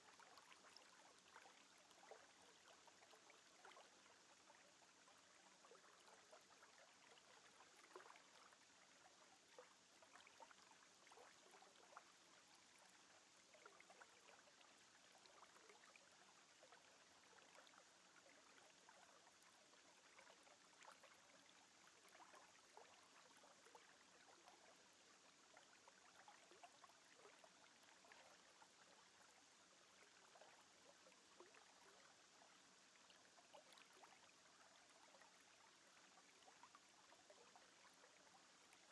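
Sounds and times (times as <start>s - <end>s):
faint steady hiss: 0.0s - 38.9s
small soft crackles: 0.0s - 38.9s.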